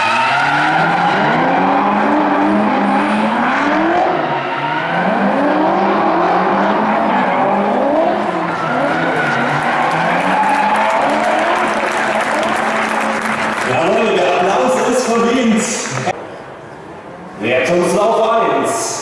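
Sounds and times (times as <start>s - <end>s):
drift car engines revving: 0.0s - 16.2s.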